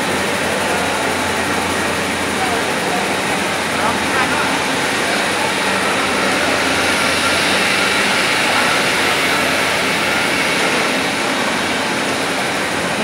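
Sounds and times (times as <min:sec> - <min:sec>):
factory machinery running: 0:00.0 - 0:13.0.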